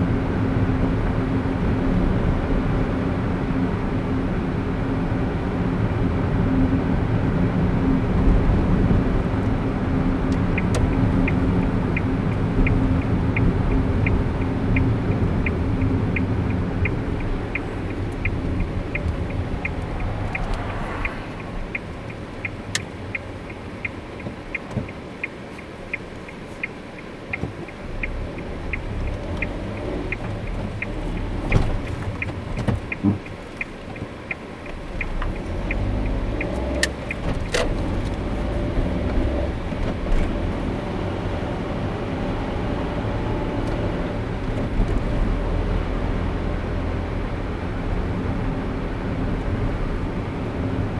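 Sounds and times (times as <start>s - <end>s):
car road and engine rumble: 0.0s - 50.9s
turn signal ticking: 0.0s - 50.9s.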